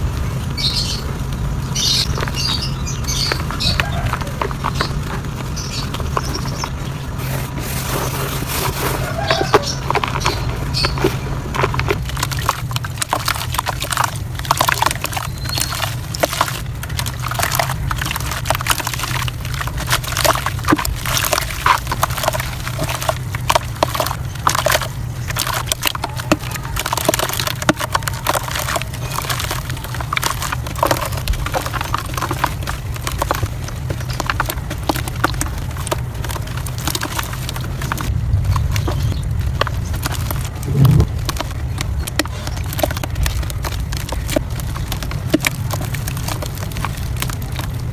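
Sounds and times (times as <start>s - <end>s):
soft dirt crumbling: 0.0s - 47.9s
steady low hum: 0.0s - 47.9s.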